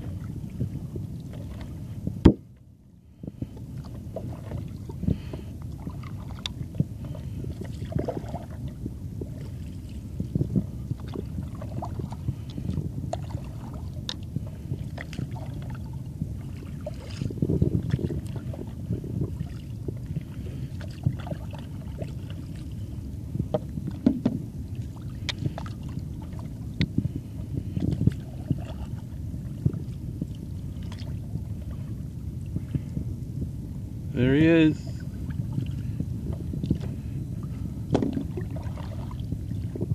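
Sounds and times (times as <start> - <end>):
paddle strokes through water: 0.0 - 39.9
steady low rumble: 0.0 - 39.9.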